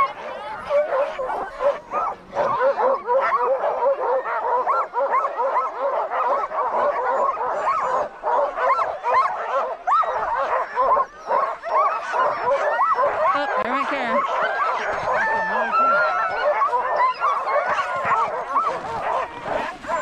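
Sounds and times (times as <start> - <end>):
dogs barking and yipping: 0.0 - 20.0.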